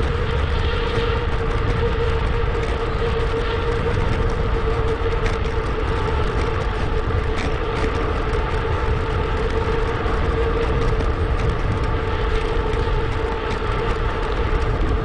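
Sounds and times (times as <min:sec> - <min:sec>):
bike tyres rolling: 0:00.0 - 0:15.0
steady hum: 0:00.0 - 0:15.0
wind rumbling on microphone: 0:00.0 - 0:15.0.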